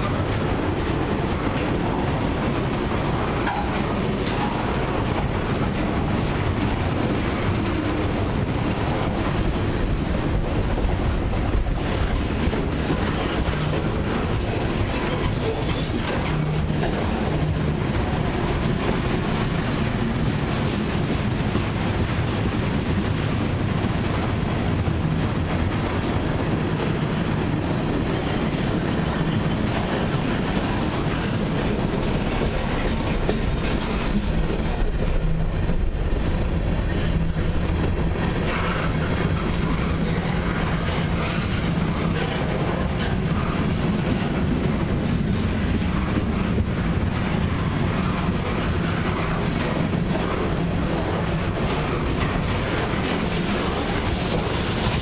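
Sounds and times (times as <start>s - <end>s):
freight train rolling past: 0.0s - 55.0s
steel wheels rumbling on rail: 0.0s - 55.0s.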